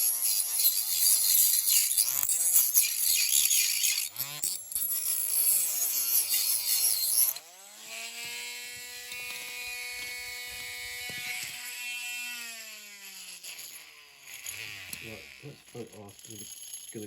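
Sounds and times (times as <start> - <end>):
rotary tool cutting and whining: 0.0 - 17.0.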